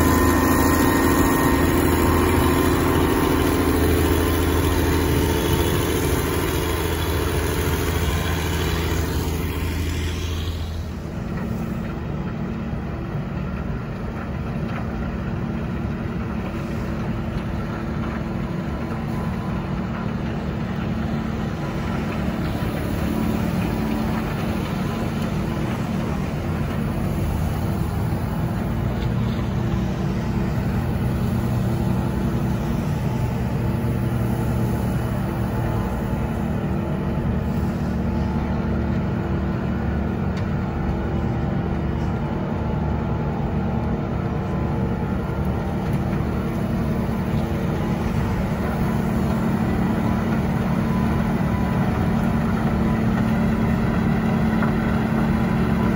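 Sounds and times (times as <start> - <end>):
snow blower droning: 0.0 - 12.2, 20.5 - 55.9
diesel engine droning: 0.0 - 55.9
dump truck: 0.0 - 55.9.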